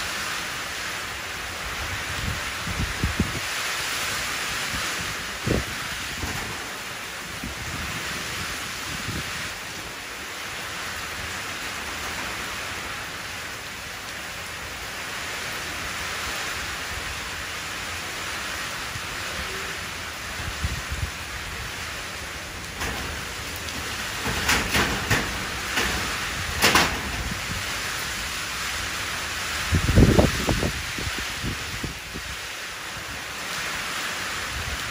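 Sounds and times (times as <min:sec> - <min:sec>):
rain falling into puddle: 0:00.0 - 0:33.8.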